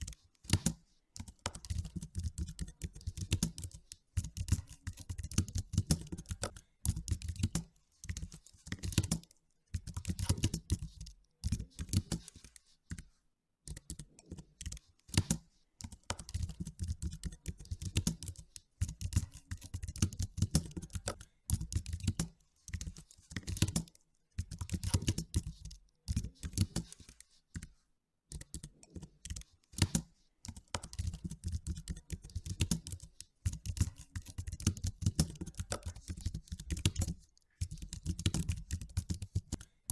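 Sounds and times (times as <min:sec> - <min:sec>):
typing on a computer keyboard: 0:00.0 - 0:39.9.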